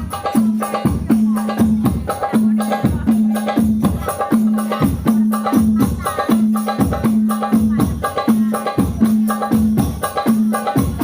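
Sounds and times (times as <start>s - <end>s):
drum hits: 0.0s - 11.0s.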